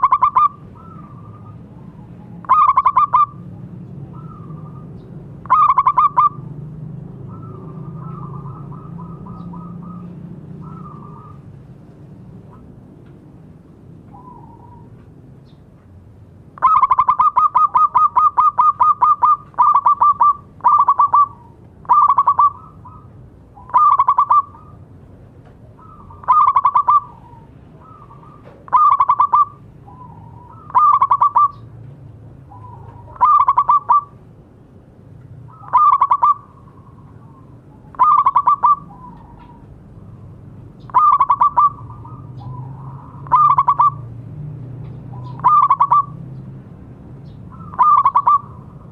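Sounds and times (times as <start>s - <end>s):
dove cooing song: 0.0s - 13.2s, 13.9s - 15.6s, 16.6s - 34.3s, 35.4s - 46.5s, 47.3s - 48.9s.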